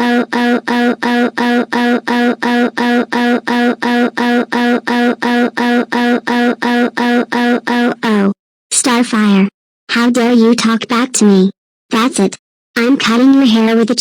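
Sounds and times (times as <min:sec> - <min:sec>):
synthesized voice repeating syllable: 0:00.0 - 0:14.0.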